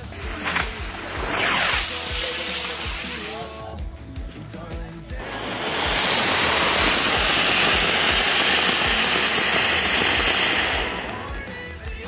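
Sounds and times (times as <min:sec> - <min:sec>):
fountain firework hissing: 0:00.0 - 0:03.6, 0:05.1 - 0:12.0.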